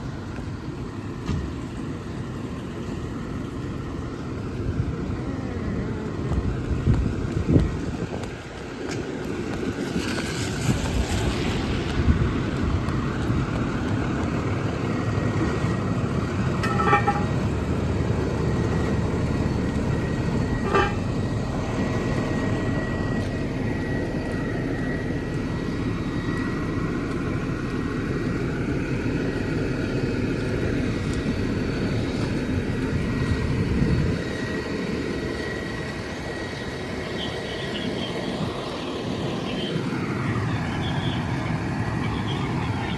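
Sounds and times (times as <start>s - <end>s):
diesel engine low rumble: 0.0s - 42.9s.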